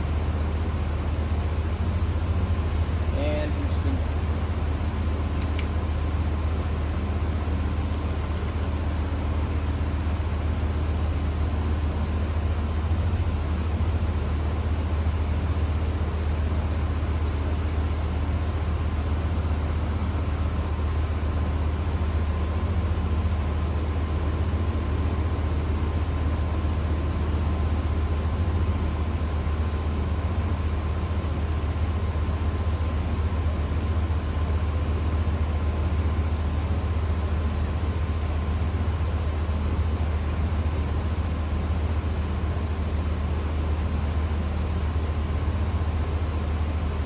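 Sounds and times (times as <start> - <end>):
ceiling fan motor hum: 0.0 - 47.0.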